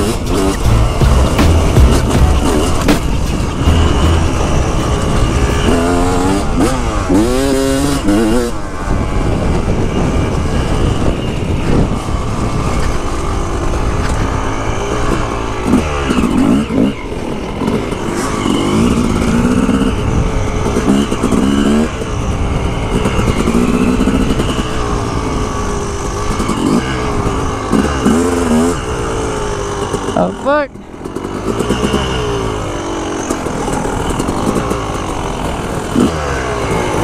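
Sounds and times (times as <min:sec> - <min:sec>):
dirt bike engine revving: 0:00.0 - 0:37.0
wind and riding noise rumble: 0:00.0 - 0:37.0.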